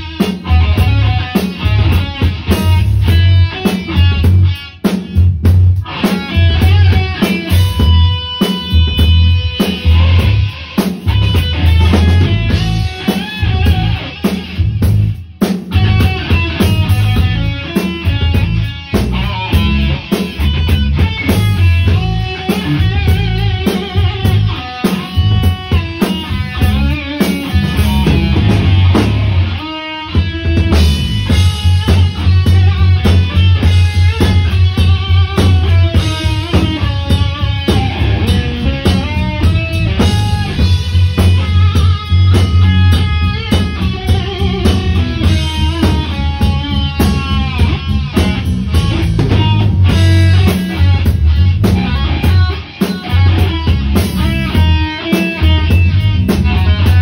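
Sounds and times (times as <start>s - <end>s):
drum kit: 0.0s - 57.0s
electric bass: 0.0s - 57.0s
electric guitar lead melody: 0.0s - 57.0s.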